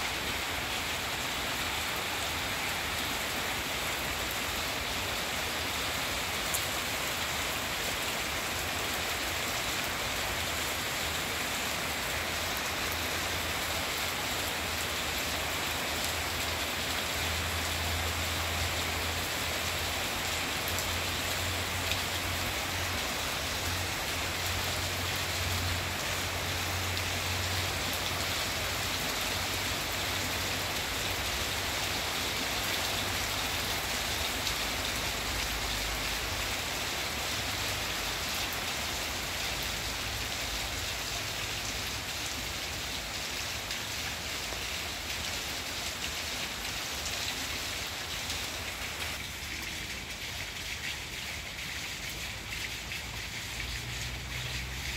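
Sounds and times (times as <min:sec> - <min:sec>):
rain pattering on leaves: 0:00.0 - 0:54.9.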